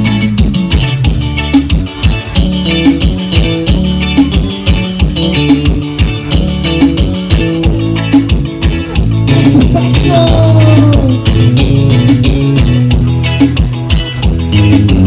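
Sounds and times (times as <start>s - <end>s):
band playing dance beat: 0.0s - 15.0s.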